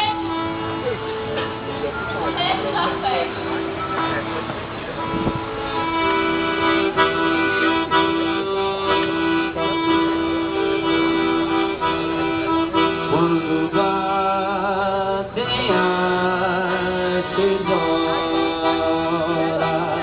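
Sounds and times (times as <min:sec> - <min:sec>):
accordion playing a folk tune: 0:00.0 - 0:20.0.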